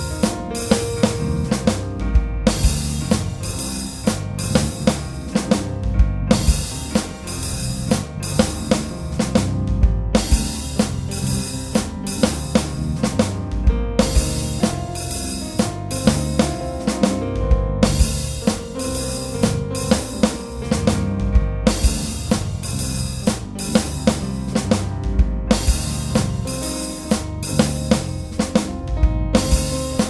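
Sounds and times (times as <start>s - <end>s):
bass line: 0.0s - 30.0s
drum kit beat: 0.0s - 30.0s.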